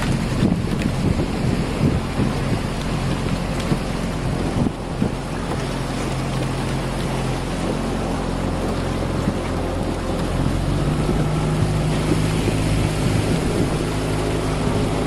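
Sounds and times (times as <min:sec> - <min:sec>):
outboard motor running: 0:00.0 - 0:15.0
water noise: 0:00.0 - 0:15.0
wind: 0:00.0 - 0:15.0.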